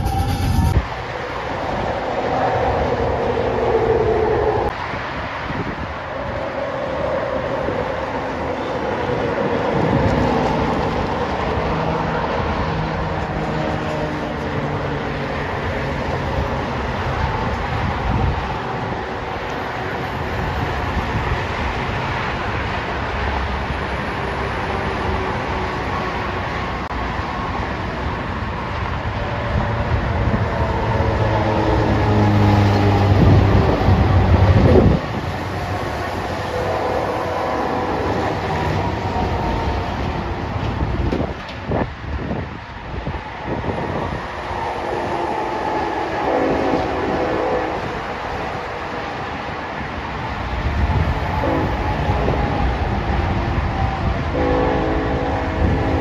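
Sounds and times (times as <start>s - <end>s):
freight train engines rumbling: 0.0s - 56.0s.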